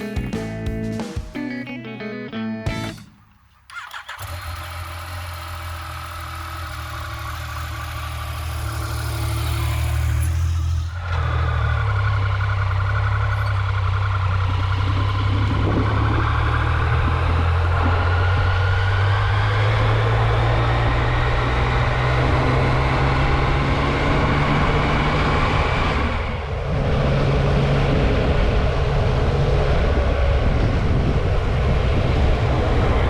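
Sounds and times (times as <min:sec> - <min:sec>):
motorcycle engine running: 0:03.7 - 0:33.0.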